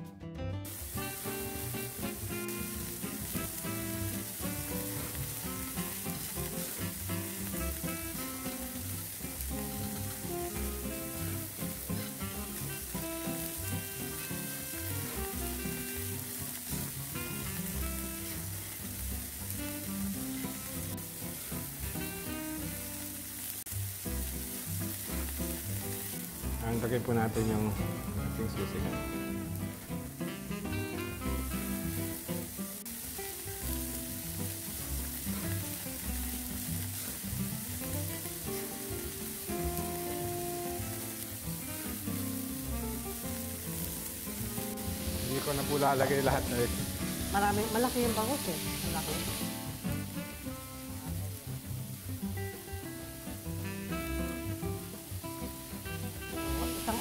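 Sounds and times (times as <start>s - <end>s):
background music: 0.0s - 57.0s
margarine sizzling on hot plate: 0.6s - 57.0s.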